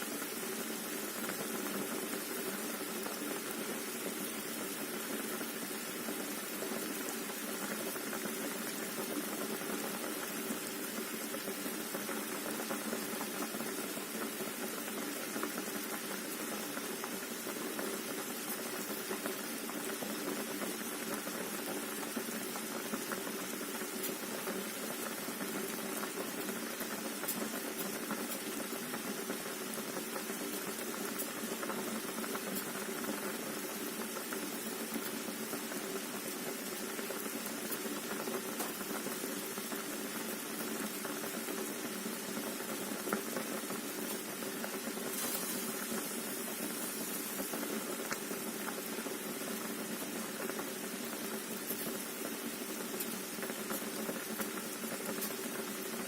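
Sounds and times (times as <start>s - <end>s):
water boiling with small pops: 0.0s - 56.0s.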